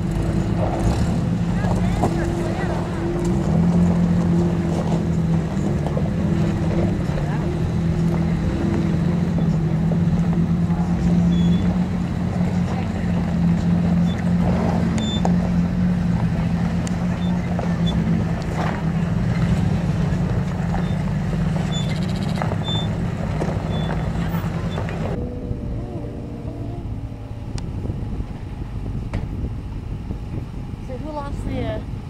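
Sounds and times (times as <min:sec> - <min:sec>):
truck engine running at low revs: 0:00.0 - 0:32.0.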